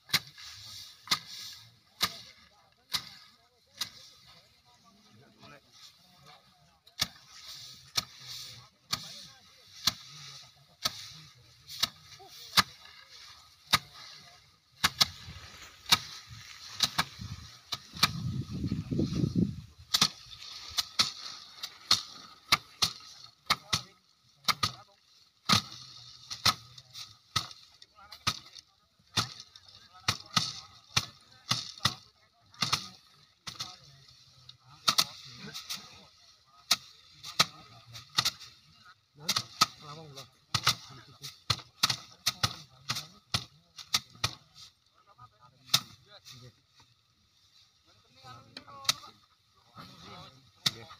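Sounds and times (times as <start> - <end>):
rice stalks thwacking on wood: 0.1 - 4.1, 7.0 - 33.9, 34.8 - 44.7, 45.6 - 46.9, 48.6 - 49.2, 50.6 - 50.9.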